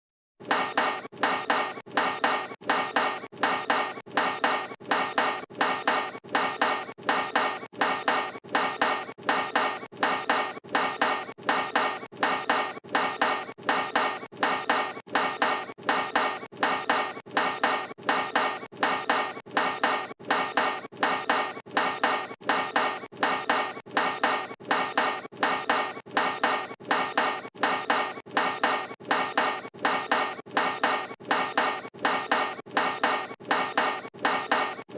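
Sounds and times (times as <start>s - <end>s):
basketball clanking off metal rim: 0.4s - 34.9s.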